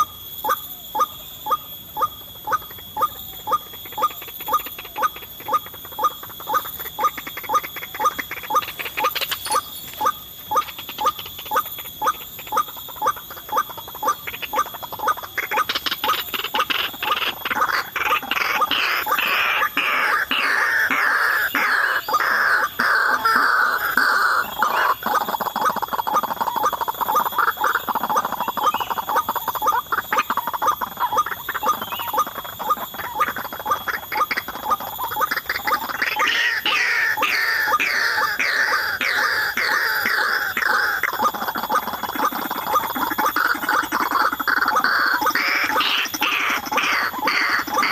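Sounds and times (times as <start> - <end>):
waterhen harsh calls: 0.4 - 47.9.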